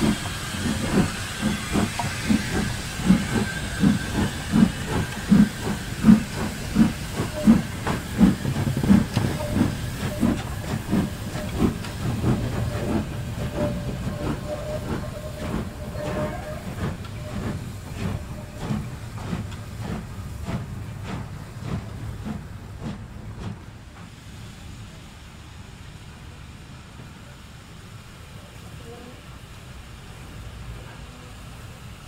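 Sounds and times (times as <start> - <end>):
steam locomotives chuffing: 0.0 - 32.0.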